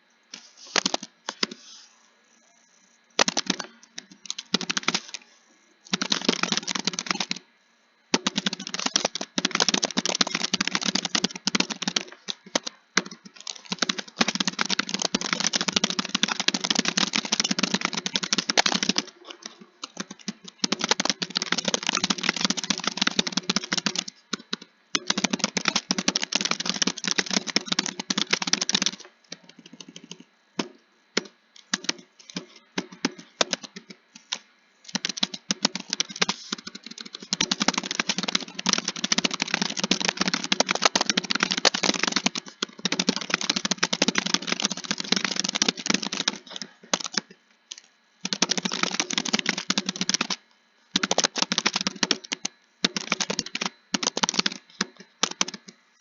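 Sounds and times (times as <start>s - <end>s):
fast keyboard typing: 0.6s - 1.7s, 3.2s - 7.4s, 8.1s - 55.8s.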